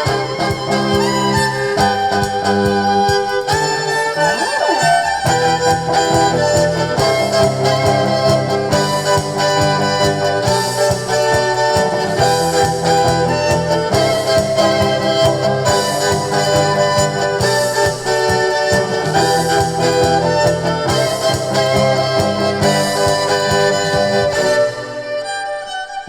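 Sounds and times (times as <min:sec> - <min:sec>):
live band instrumental music: 0:00.0 - 0:26.0.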